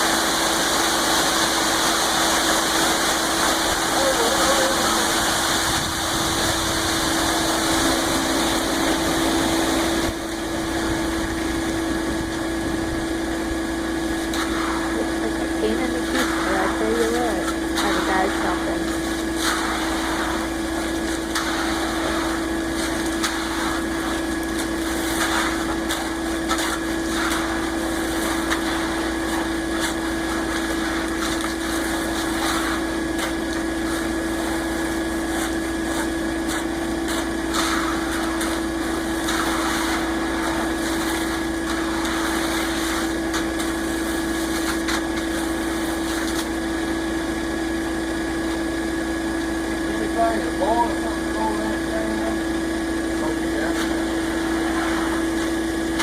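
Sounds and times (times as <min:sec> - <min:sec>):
concrete mixer truck droning: 0:00.0 - 0:56.0.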